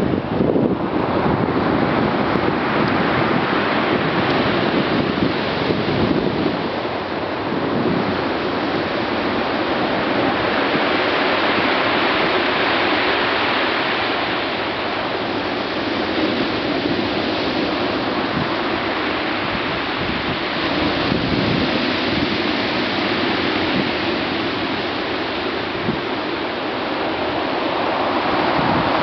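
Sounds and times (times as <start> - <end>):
waves breaking on pebble beach: 0.0 - 29.0.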